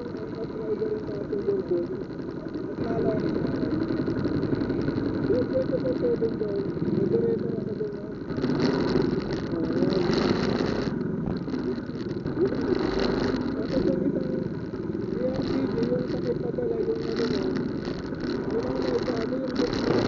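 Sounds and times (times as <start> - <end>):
motorcycle and car engines idling: 0.0 - 20.0
people's voices: 0.0 - 20.0.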